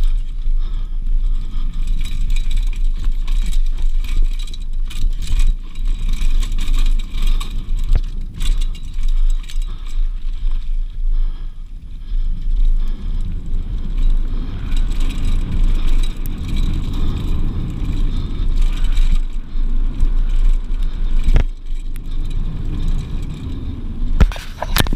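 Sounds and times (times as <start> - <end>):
bike tyres rumbling on dirt: 0.0 - 24.9
wind buffeting microphone: 0.0 - 24.9.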